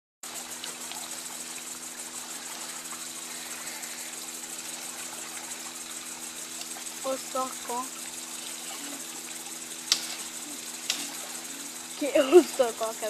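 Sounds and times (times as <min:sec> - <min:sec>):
motor hum: 0:00.3 - 0:13.0.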